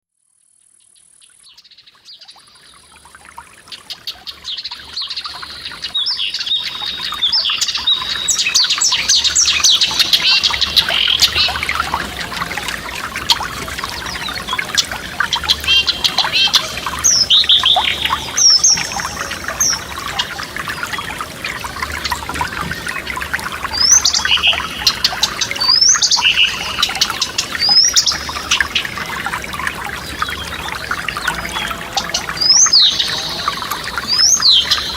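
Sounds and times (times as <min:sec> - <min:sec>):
songbirds singing: 0:00.8 - 0:34.9
forest stream babbling: 0:01.2 - 0:34.9.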